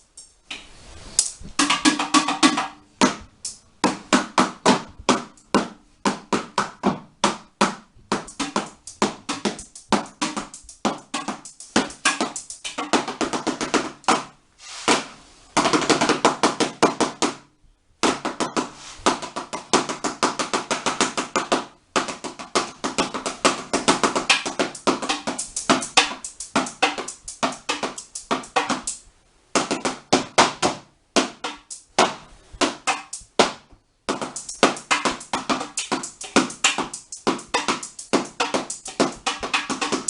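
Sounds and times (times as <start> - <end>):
sticks drumming on tin: 0.0 - 14.3, 18.1 - 29.0, 29.6 - 40.0.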